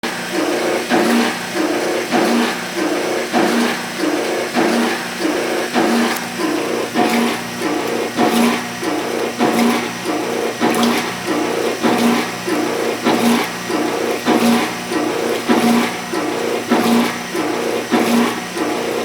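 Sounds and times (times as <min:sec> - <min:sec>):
washing machine motor humming: 0:00.0 - 0:19.0
agitator strokes: 0:00.3 - 0:19.0.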